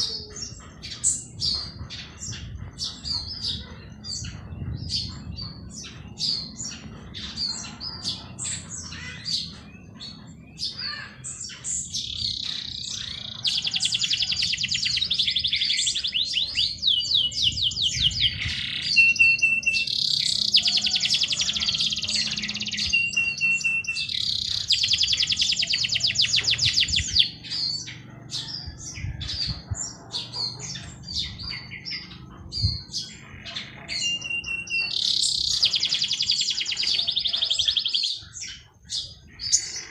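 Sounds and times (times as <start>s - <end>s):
fast loud bird trilling: 0.0s - 39.9s
songbirds chirping: 0.0s - 39.9s.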